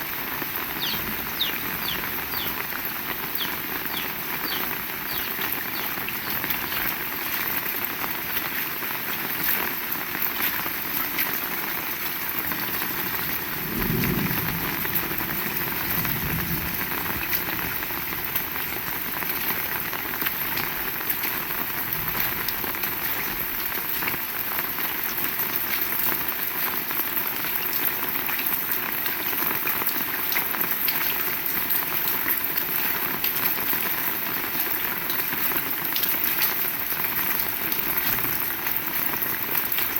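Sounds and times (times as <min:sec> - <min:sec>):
close raindrops ticking: 0:00.0 - 0:39.9
heavy rain: 0:00.0 - 0:39.9.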